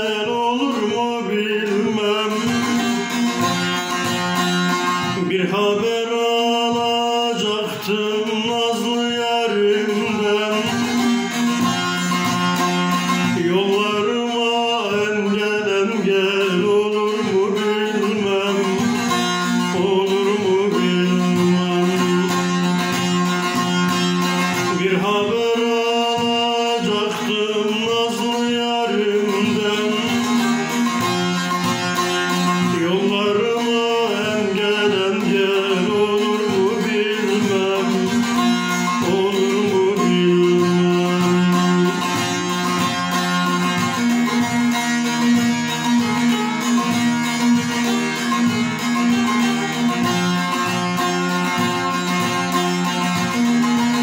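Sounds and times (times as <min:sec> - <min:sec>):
man singing: 0:00.0 - 0:54.0
plucked saz melody: 0:00.0 - 0:54.0.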